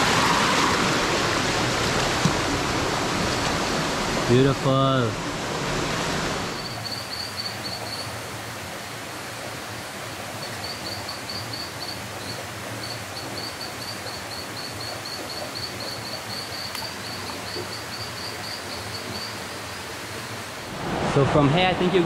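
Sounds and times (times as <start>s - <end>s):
forest stream rushing: 0.0s - 22.0s.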